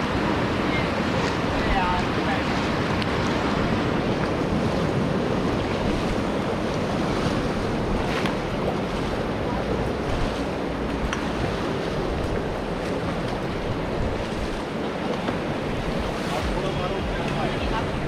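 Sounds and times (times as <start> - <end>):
river water rushing: 0.0 - 18.0
wind buffeting microphone: 0.0 - 18.0.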